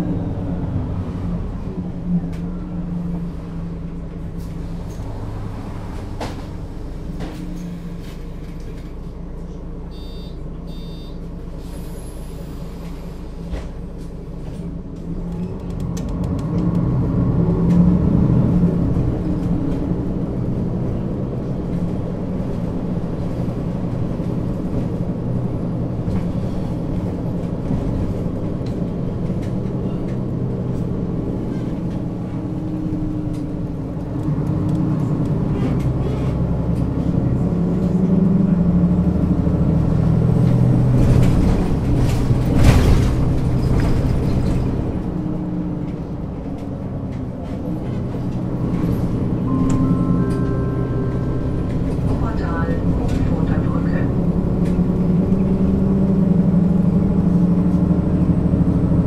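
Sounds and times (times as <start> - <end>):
bus diesel engine pulling: 0.0 - 59.0.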